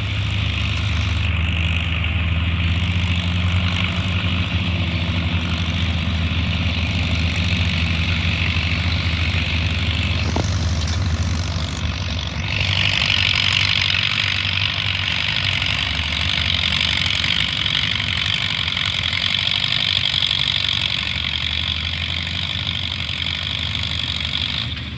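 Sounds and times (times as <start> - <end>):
tractor engine rumbling: 0.0 - 24.9.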